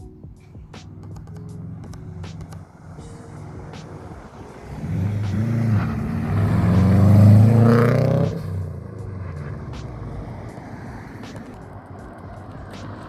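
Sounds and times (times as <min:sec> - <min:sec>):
car accelerating past: 0:00.5 - 0:13.0.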